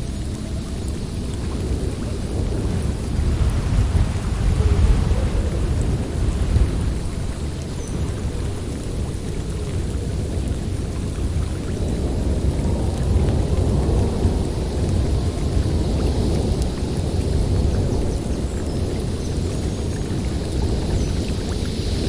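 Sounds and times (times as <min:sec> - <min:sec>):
wind roaring: 0:00.0 - 0:22.0.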